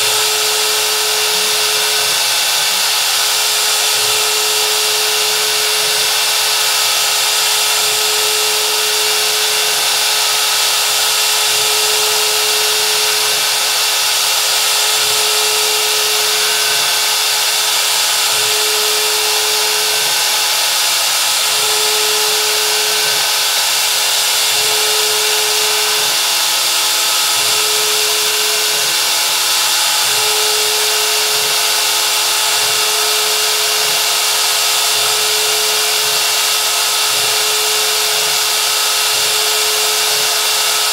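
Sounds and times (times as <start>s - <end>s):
router spindle whine and hiss: 0.0s - 40.9s.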